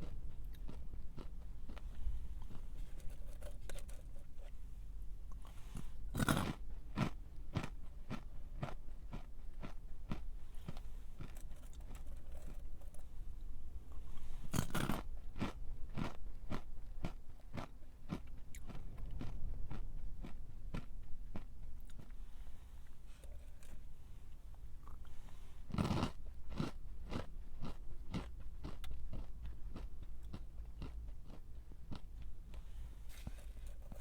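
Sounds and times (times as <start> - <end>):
crunchy chewing: 0.0 - 4.6, 5.3 - 13.1, 13.9 - 22.2, 24.8 - 34.0.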